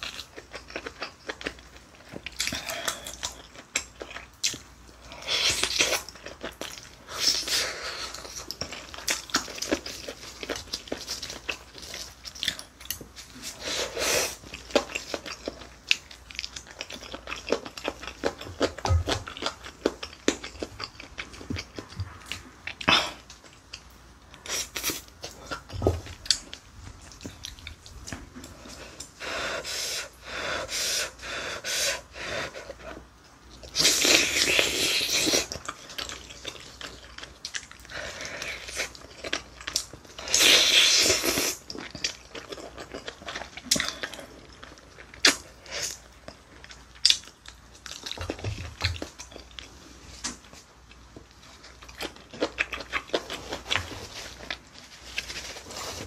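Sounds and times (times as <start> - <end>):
person chewing meat: 0.0 - 56.0.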